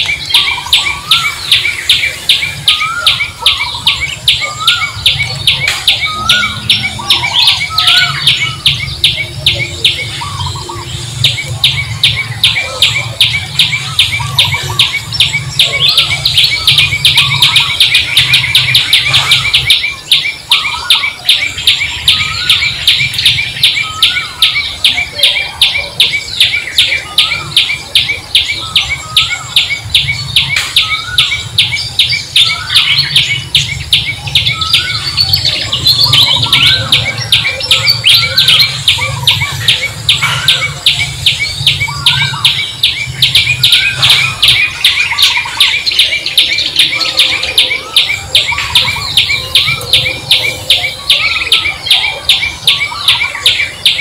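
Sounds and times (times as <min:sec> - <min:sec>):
high bird chirps: 0:00.0 - 0:54.0
rising and falling bird calls: 0:00.0 - 0:54.0.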